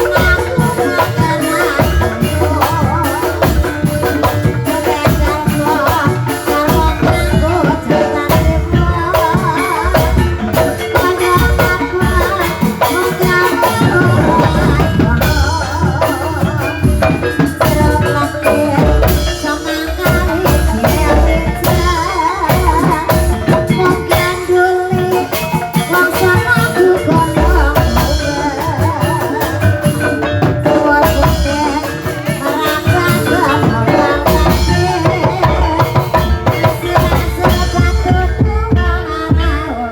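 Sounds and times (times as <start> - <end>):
hand drums rhythm: 0.0 - 39.9
tuned percussion: 0.0 - 39.9.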